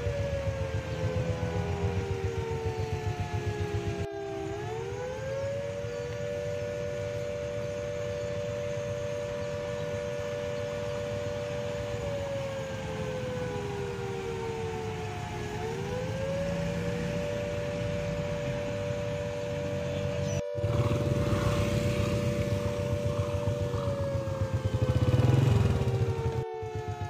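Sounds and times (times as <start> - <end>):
siren wailing: 0.0 - 27.0.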